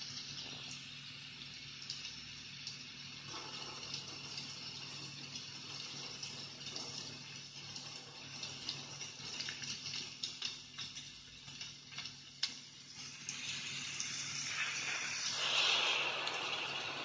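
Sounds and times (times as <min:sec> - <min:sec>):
rain hiss through loudspeaker: 0:00.0 - 0:09.6, 0:10.3 - 0:17.0.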